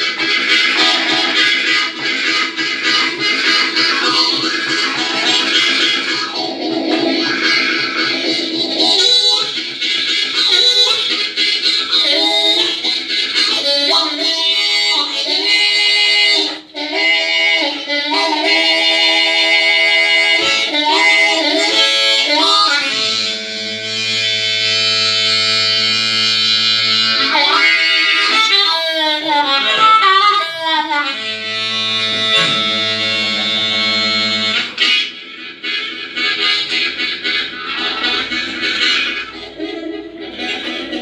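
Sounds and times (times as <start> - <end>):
blues harmonica: 0.0 - 41.0.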